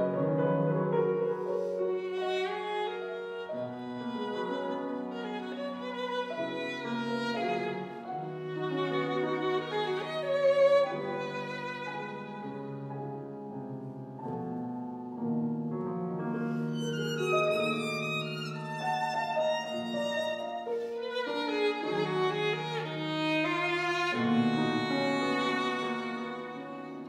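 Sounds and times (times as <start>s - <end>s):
piano chords: 0.0s - 27.0s
violin playing: 0.9s - 13.4s, 16.5s - 27.0s.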